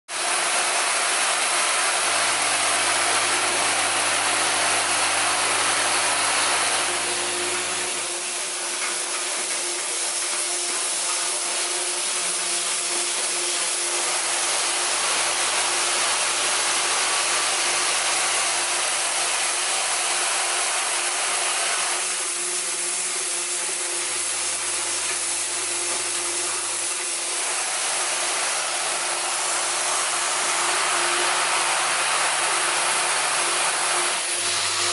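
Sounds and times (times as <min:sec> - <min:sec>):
assembly machine whirring: 0:00.4 - 0:34.9.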